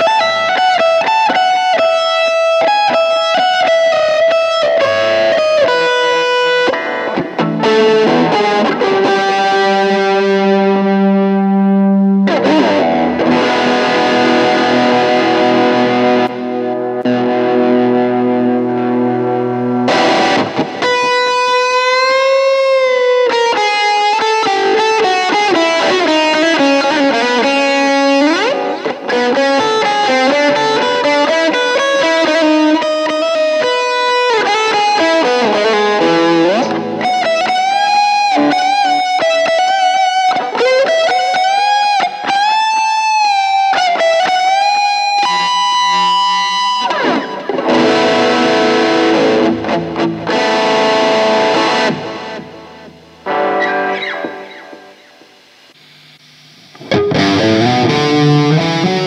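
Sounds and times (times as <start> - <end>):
electric guitar lead solo: 0.0 - 59.0.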